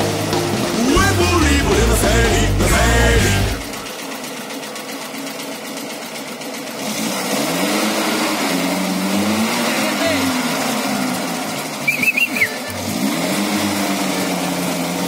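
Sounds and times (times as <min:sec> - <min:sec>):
off-road vehicle engine revving: 0:00.0 - 0:04.0, 0:06.4 - 0:15.0.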